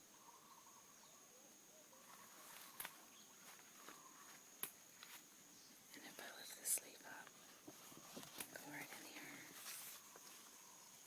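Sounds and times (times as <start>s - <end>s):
faint bird calls: 0.0s - 4.4s, 5.5s - 11.0s.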